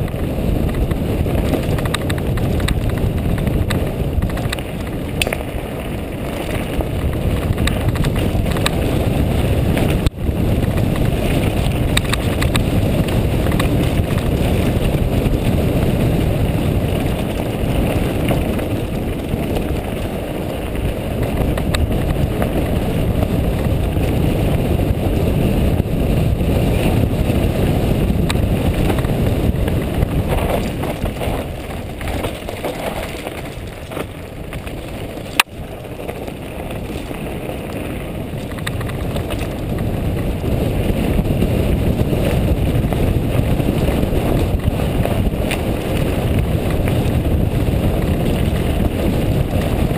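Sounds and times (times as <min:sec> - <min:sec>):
bike rattles and knocks: 0:00.0 - 0:49.9
bike tyres rolling over gravel: 0:00.0 - 0:49.9
wind buffeting microphone: 0:00.0 - 0:49.9.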